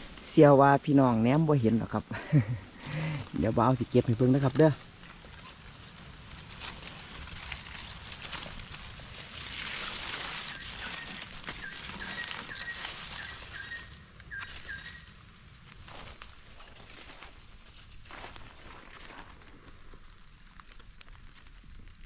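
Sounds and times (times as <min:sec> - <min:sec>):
rustling of ferns and leaf litter: 0:00.0 - 0:22.0.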